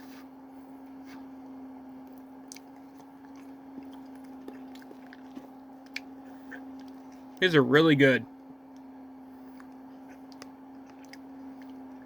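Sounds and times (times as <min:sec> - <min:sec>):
steady low hum: 0:00.0 - 0:12.0
person chewing food: 0:00.8 - 0:07.4, 0:08.6 - 0:12.0.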